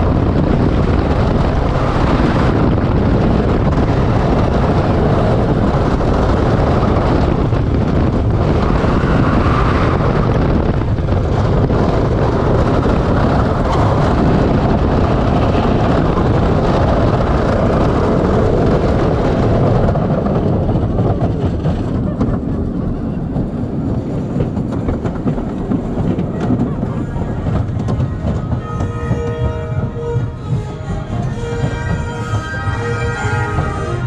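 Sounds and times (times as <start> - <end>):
roller coaster wheels rumbling on track: 0.0 - 34.0.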